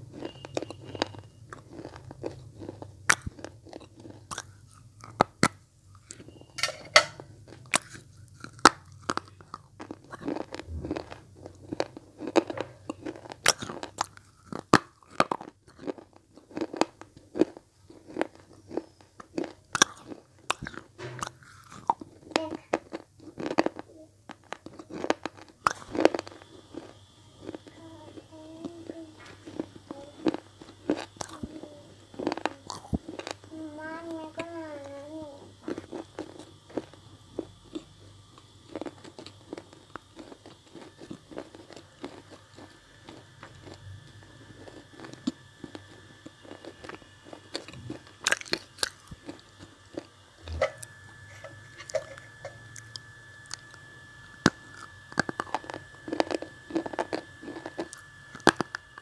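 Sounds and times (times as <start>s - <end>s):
slate crunching between teeth: 0.1s - 27.6s, 35.6s - 59.0s.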